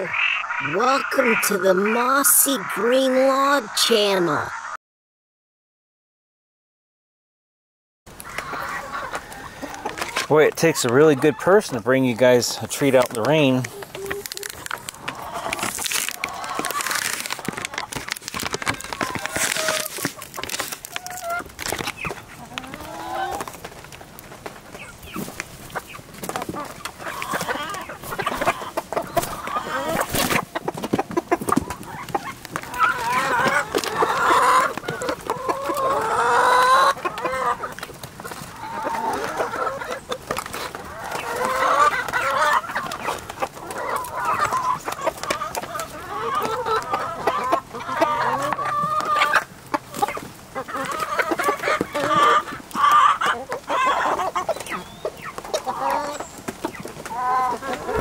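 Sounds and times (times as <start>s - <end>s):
chickens clucking: 0.0s - 4.8s, 8.1s - 58.0s.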